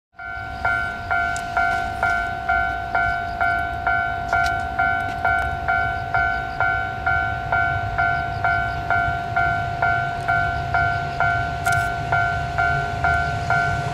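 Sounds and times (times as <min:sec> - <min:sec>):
level-crossing alarm clanging: 0:00.2 - 0:13.9
steady low rumble: 0:00.2 - 0:13.9.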